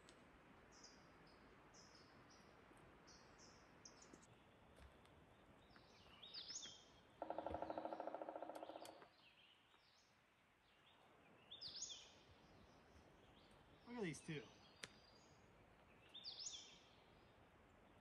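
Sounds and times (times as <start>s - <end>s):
songbirds singing: 0.7s - 18.0s.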